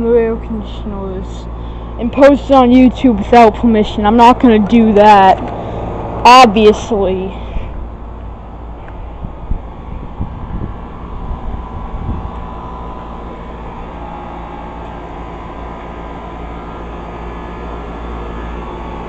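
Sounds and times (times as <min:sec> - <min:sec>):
air conditioner unit humming: 0:00.0 - 0:19.0.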